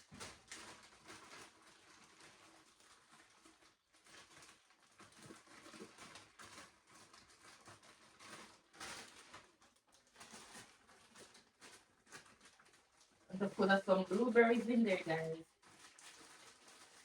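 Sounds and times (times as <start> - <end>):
plastic bag rustling: 0.0 - 17.0.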